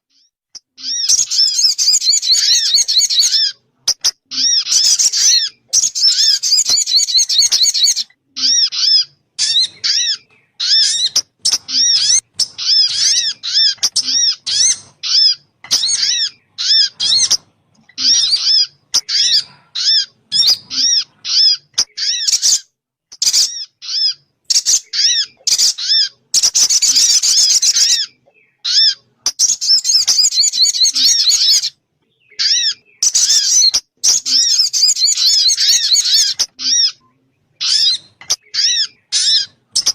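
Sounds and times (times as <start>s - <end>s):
bird chirping rapidly: 0.1s - 39.9s.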